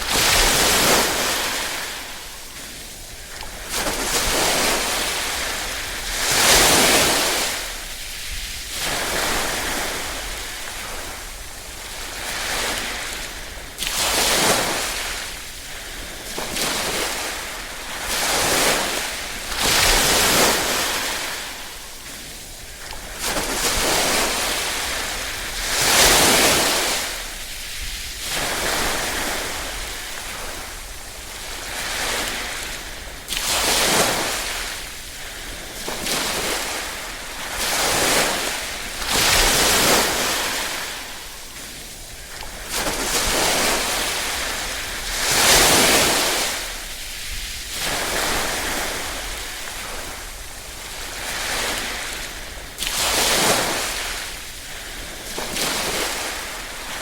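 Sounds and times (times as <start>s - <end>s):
small waves washing ashore: 0.0s - 57.0s.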